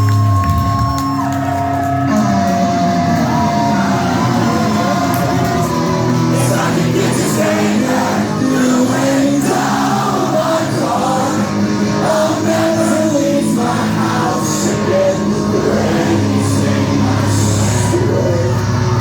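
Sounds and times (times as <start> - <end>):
live rock band playing: 0.0 - 19.0
person singing: 2.0 - 19.0.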